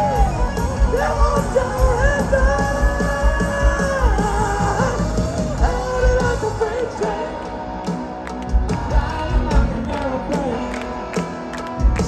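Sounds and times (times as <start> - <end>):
high yelled lead vocal: 0.0 - 7.8, 8.7 - 11.0
driving drum beat: 0.0 - 12.0
rock guitars: 0.0 - 12.0.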